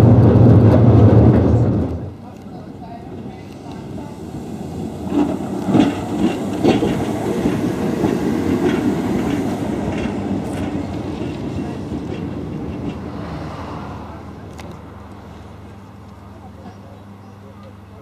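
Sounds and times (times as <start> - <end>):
tram rumbling on track: 0.0 - 18.0
wheels clicking on rails: 0.0 - 18.0.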